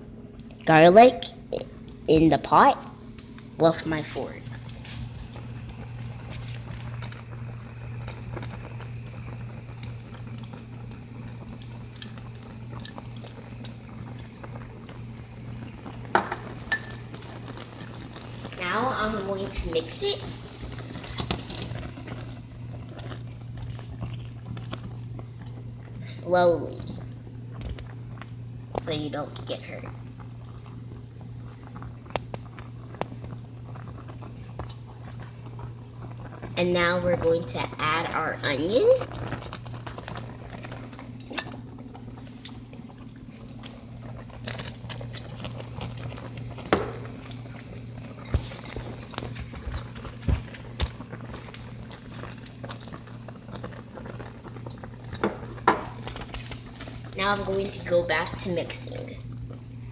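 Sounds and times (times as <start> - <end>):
steady low hum: 0.0 - 59.9
soup bubbling at a boil: 1.4 - 59.9
small pops and crackles: 4.6 - 18.6, 20.2 - 26.0, 26.8 - 37.4, 38.8 - 57.2.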